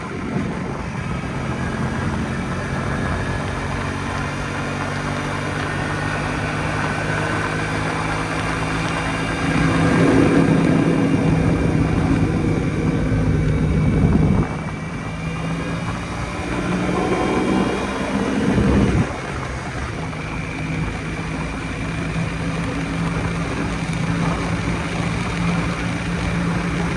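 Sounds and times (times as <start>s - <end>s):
two-stroke motorcycle engine running: 0.0s - 26.9s.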